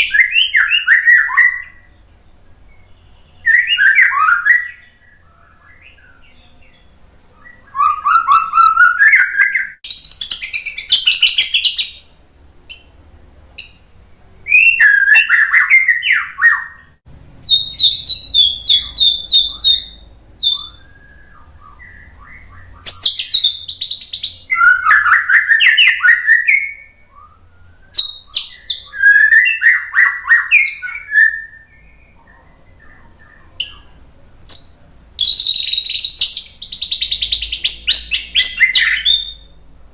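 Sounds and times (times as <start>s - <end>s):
songbird singing whistles: 0.0s - 13.0s, 13.6s - 39.6s.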